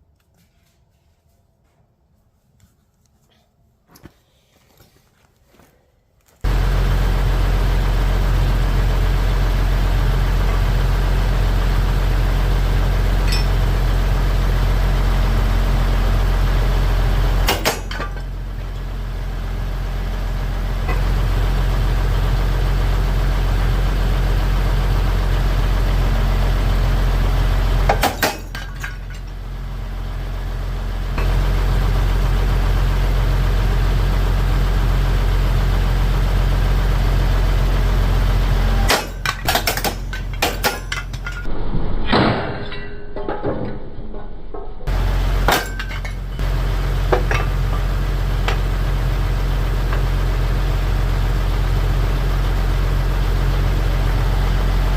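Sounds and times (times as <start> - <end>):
machine humming loudly: 6.5 - 28.1, 29.4 - 54.9.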